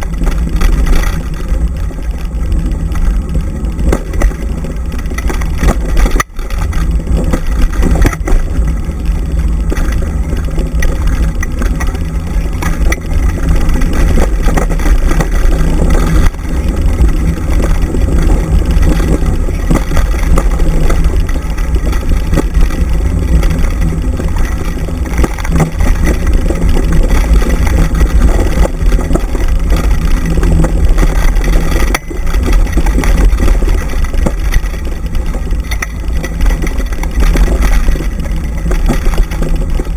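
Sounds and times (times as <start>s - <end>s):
rig rumbling over dirt trail: 0.0s - 39.9s
wind buffeting microphone: 0.0s - 39.9s.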